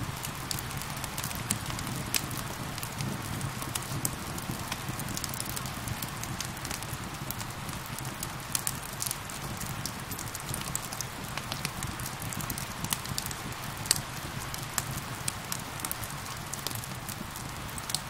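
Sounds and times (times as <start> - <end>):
rain falling: 0.0 - 18.0
wood fire crackling and popping: 0.0 - 18.0.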